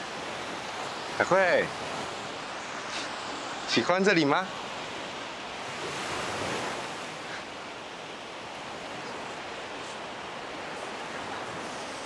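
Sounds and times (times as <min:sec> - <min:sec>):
waves breaking on sandy beach: 0:00.0 - 0:12.0.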